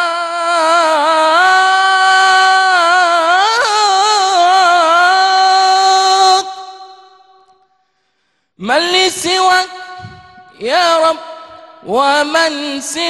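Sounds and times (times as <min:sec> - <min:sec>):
man singing devotional chant: 0:00.0 - 0:07.1, 0:08.6 - 0:13.0.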